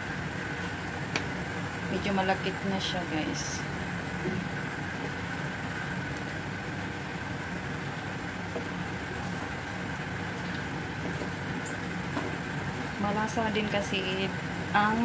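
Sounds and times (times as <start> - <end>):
porridge simmering: 0.0 - 13.4
mechanical hum with high whine: 0.0 - 15.0.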